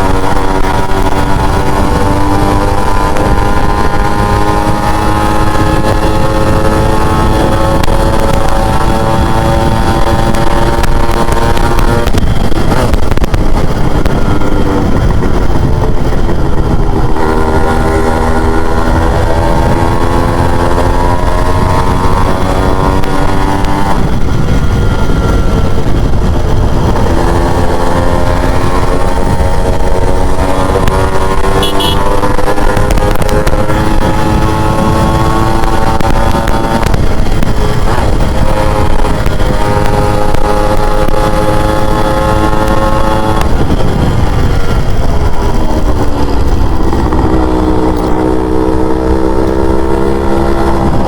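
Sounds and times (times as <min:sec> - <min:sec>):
low rush: 0:00.0 - 0:51.0
motorcycle engine running: 0:00.0 - 0:51.0.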